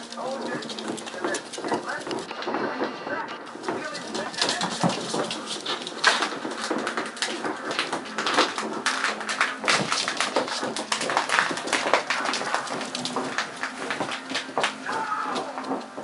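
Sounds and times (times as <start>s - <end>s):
puppy claws clicking on wood floor: 0.0s - 2.3s, 3.6s - 16.0s.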